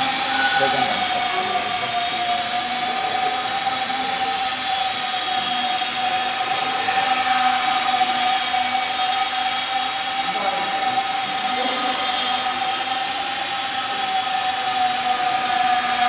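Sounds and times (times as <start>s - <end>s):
small electric motors whining: 0.0s - 16.0s.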